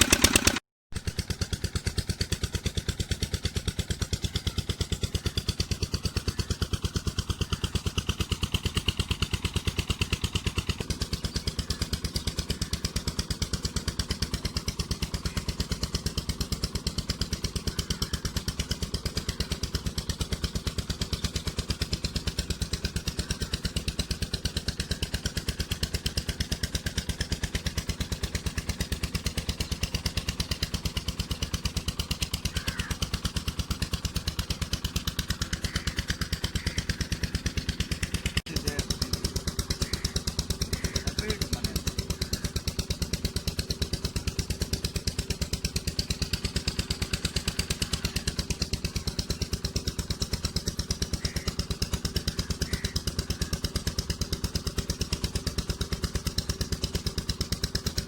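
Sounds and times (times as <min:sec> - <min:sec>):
diesel engine running pump: 0:00.0 - 0:58.0.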